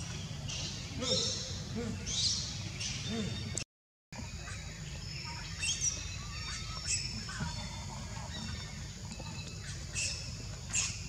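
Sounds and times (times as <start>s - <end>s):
birds chirping: 0.0s - 3.6s, 4.2s - 11.0s.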